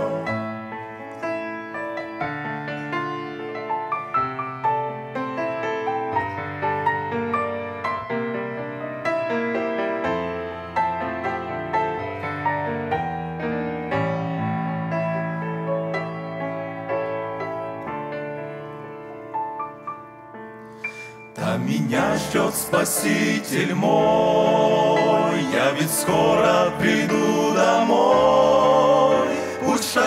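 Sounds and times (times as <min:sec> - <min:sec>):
grand piano playing: 0:00.0 - 0:30.0.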